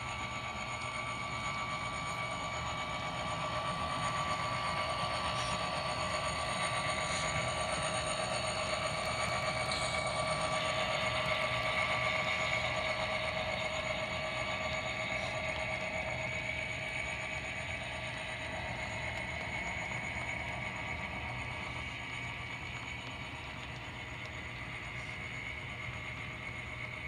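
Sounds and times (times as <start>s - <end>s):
model train whirring on track: 0.0s - 27.0s.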